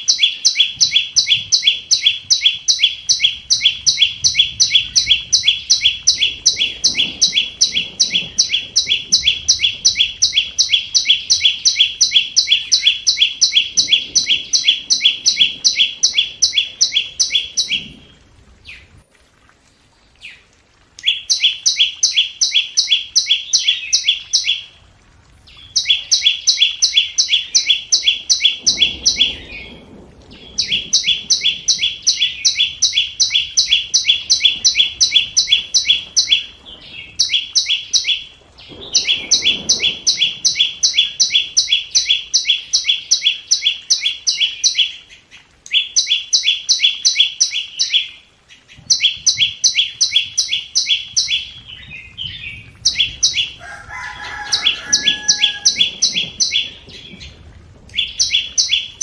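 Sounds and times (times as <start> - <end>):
bird high ticking calls: 0.0 - 18.1, 20.2 - 24.8, 25.5 - 59.0.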